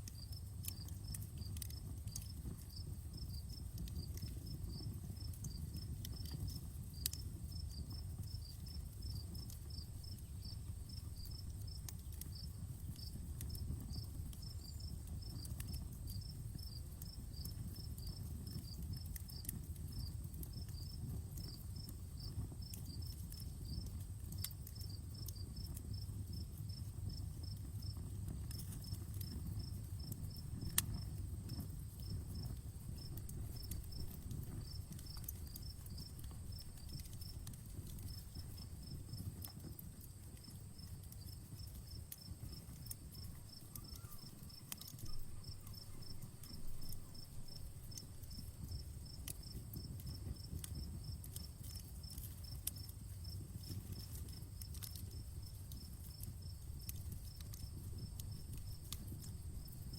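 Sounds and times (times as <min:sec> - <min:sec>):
campfire crackling and popping: 0:00.0 - 0:59.9
low rumble of flames: 0:00.0 - 0:59.9
crickets chirping: 0:07.4 - 0:23.9, 0:24.8 - 0:59.9.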